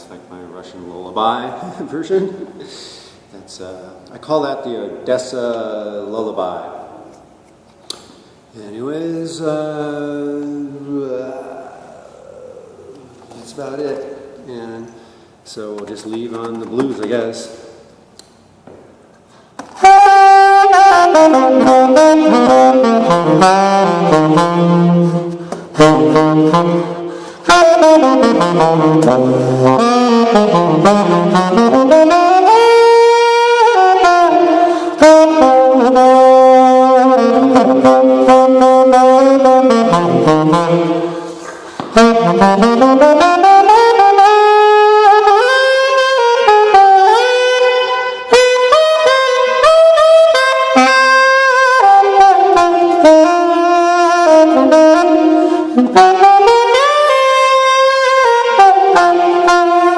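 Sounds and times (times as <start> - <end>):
saxophone playing blues: 7.1 - 17.5, 19.2 - 59.9.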